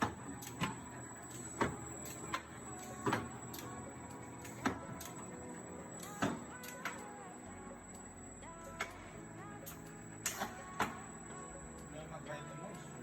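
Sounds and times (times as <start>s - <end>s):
truck transmission whirring: 0.0s - 13.0s.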